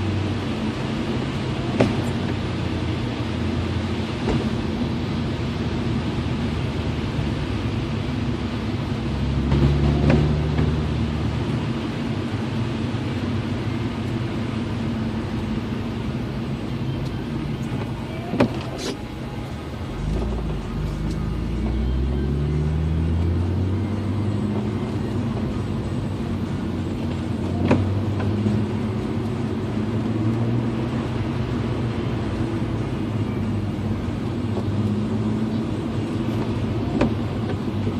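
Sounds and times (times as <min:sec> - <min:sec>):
car engine accelerating: 0:00.0 - 0:37.9
road noise: 0:00.0 - 0:37.9.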